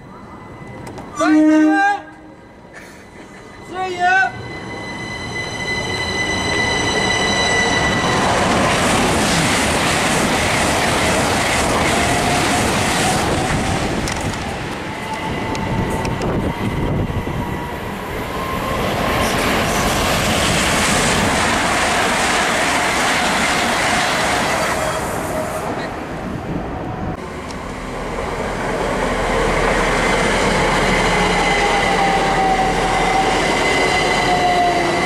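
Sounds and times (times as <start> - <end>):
train wheels rumbling on track: 4.7 - 35.0.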